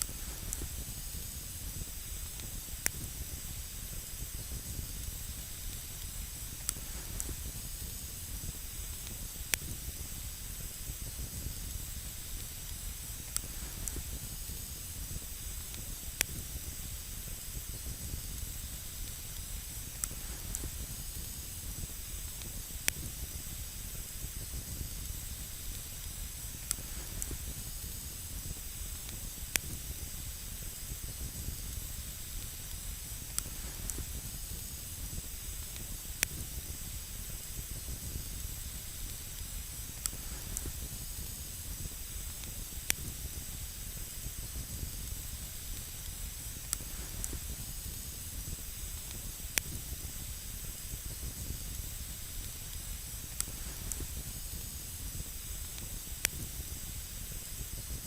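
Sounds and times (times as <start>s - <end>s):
campfire burning: 0.0s - 58.0s
fire crackling and popping: 0.0s - 58.0s.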